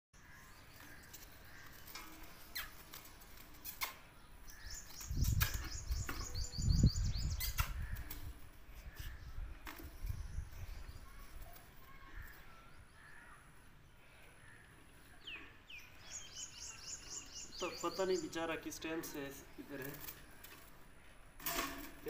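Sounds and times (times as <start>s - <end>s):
bird chirping: 0.2s - 20.6s.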